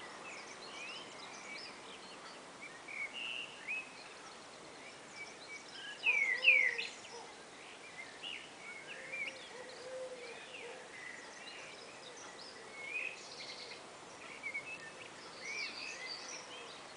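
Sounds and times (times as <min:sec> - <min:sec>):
blackbirds chirping: 0:00.0 - 0:16.9.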